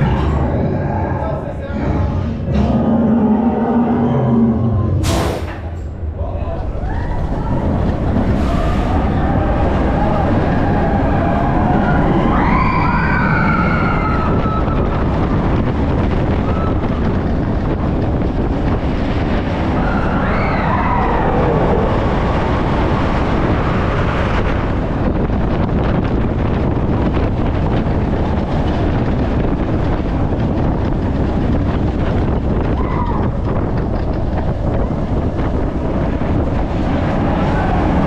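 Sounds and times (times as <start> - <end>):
roller coaster wheels rumbling: 0.0 - 38.0
wind rushing on microphone: 0.0 - 38.0
riders screaming and whooping: 6.6 - 38.0.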